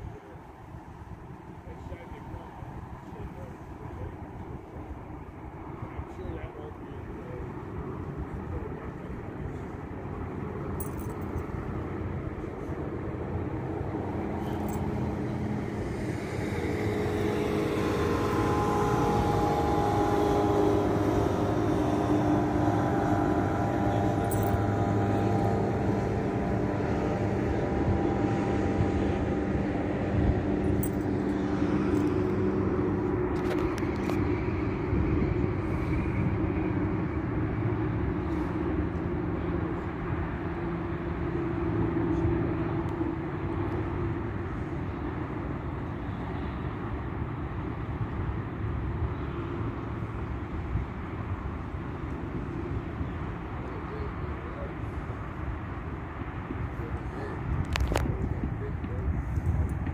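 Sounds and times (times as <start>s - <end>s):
motorboat engine droning: 0.0s - 59.9s
wind and water rumble: 0.0s - 59.9s.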